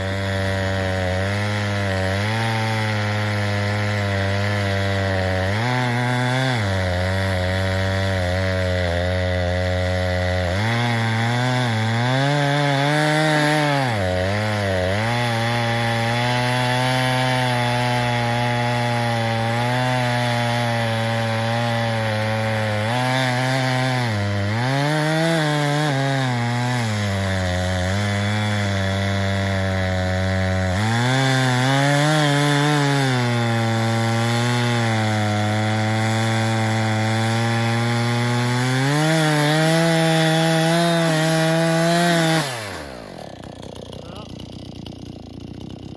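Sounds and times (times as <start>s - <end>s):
chainsaw cutting tree trunk: 0.0s - 45.9s.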